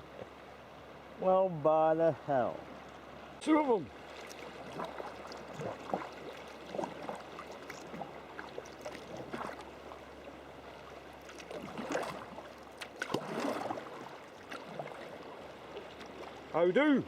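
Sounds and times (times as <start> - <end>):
water splashing around kayak: 2.2 - 17.0
paddle splashes: 2.5 - 17.0.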